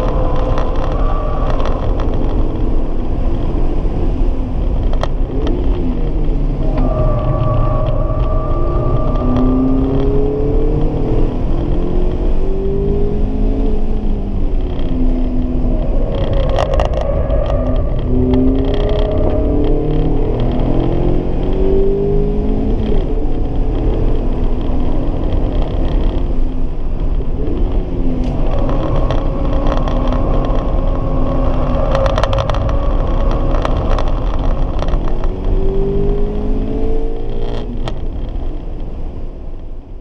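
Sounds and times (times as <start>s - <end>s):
car engine revving: 0.0s - 39.4s
road and wind noise: 0.0s - 40.0s.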